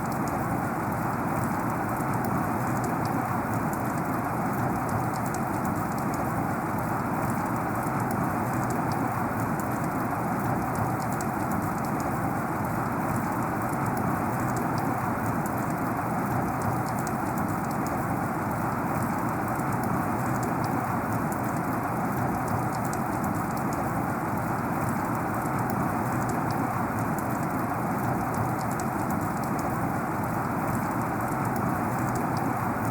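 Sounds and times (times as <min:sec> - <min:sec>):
sharp raindrop ticks: 0:00.0 - 0:32.9.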